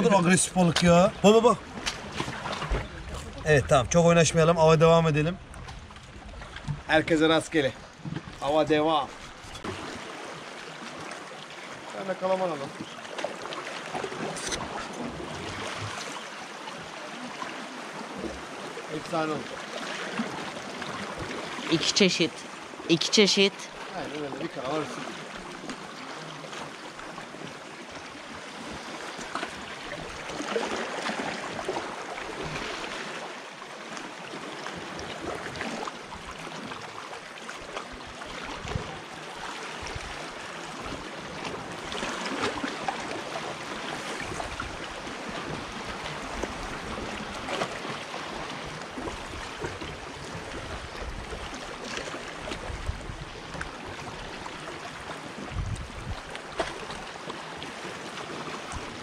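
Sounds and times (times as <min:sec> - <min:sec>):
small waves lapping against rocks: 0:00.0 - 0:04.4, 0:05.3 - 0:22.9, 0:23.6 - 0:59.0.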